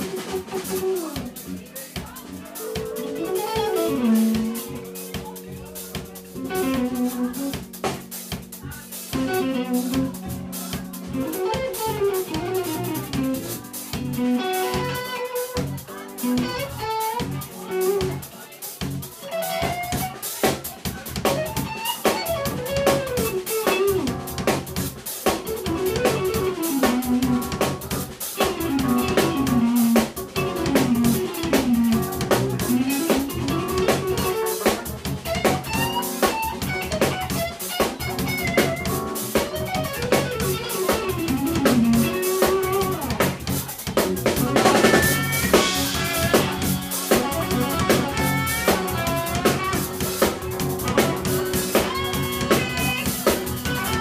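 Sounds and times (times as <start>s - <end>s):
jazz band playing: 0.0s - 54.0s.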